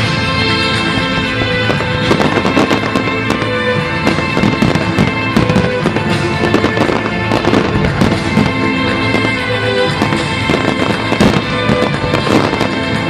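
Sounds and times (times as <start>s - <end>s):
fireworks bangs and crackles: 0.0s - 13.0s
music with long held notes: 0.0s - 13.0s.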